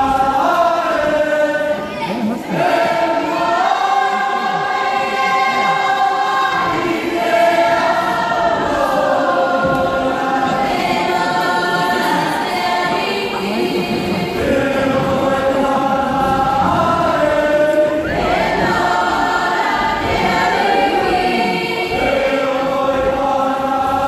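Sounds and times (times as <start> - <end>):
group singing held notes: 0.0 - 24.0.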